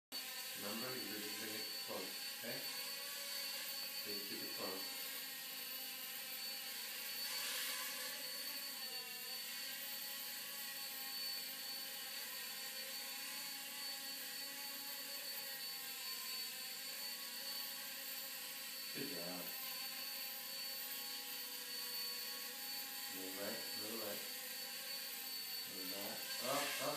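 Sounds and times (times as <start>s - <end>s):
toy helicopter motor whirring: 0.2s - 26.9s.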